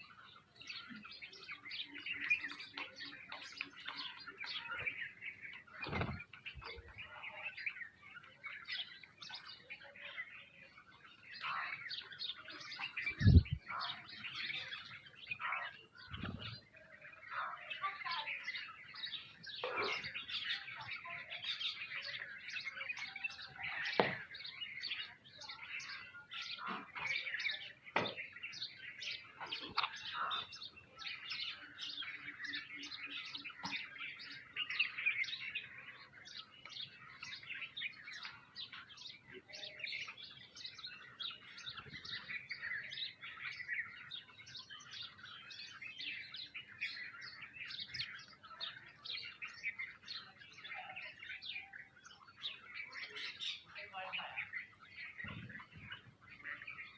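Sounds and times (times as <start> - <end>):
flock of small birds chirping: 0.0 - 56.9.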